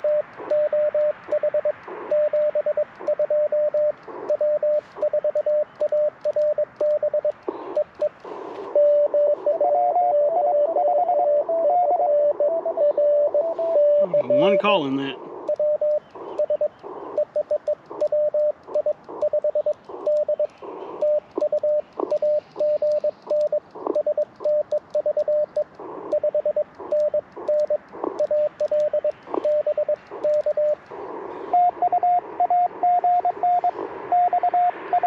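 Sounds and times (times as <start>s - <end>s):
morse code beeps: 0.0s - 35.0s
radio static: 0.0s - 35.0s.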